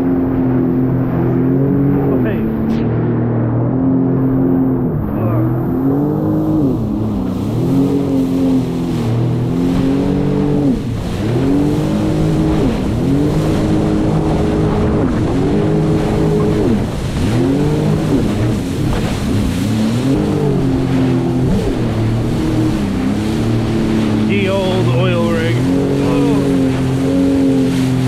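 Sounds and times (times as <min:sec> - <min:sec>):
jet ski engine running hard: 0:00.0 - 0:28.0.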